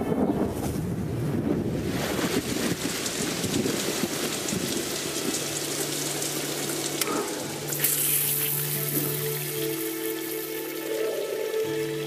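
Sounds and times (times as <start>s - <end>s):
fountain water splashing: 1.8s - 12.0s.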